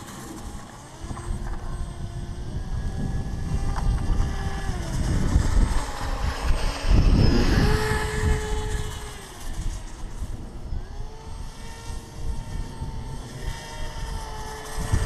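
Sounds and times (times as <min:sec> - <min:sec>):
electric motor and propeller whining: 0:00.0 - 0:15.0
wind rumble on microphone: 0:00.0 - 0:15.0.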